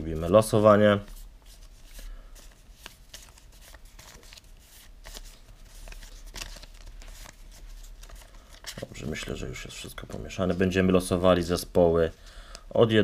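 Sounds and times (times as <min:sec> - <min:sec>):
paper slips rustling: 0:00.2 - 0:10.7.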